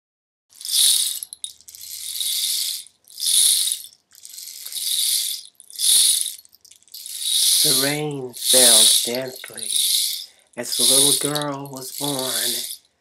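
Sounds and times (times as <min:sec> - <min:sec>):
hand percussion rattle shaken: 0:00.6 - 0:13.0.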